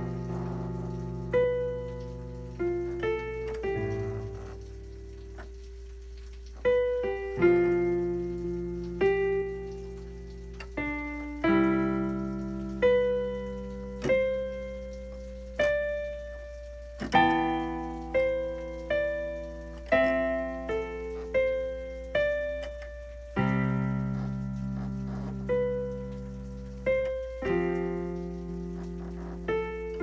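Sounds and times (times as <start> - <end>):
electronic keyboard piano chords: 0.0 - 30.0.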